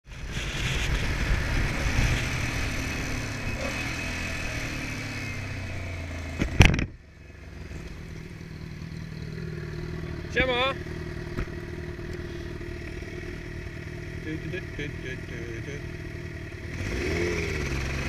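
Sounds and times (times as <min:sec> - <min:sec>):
motorcycle engine running: 0:00.1 - 0:18.0.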